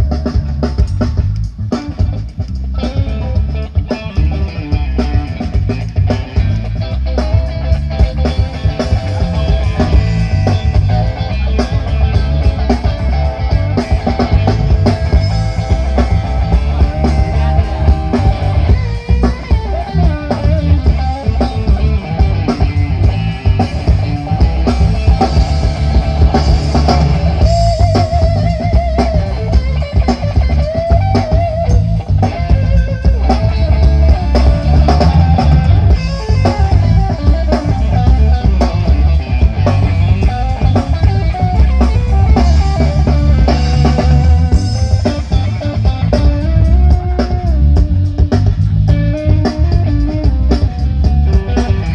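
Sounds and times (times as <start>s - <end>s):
rock music with guitar and drums: 0.0s - 51.9s.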